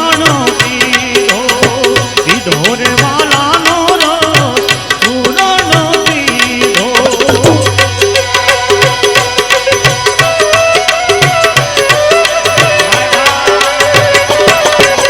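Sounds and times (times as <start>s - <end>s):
fast percussion beat: 0.0s - 15.0s
ornamented melody line: 1.5s - 15.0s.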